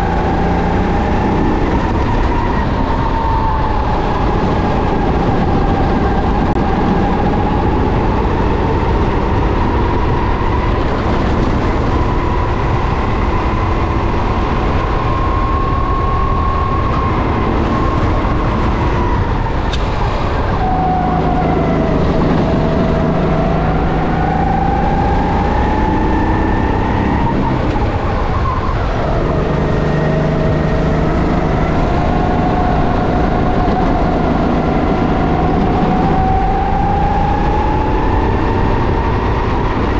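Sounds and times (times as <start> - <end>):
heavy low rumble: 0.0 - 39.9
racing kart engine revving: 0.0 - 39.9.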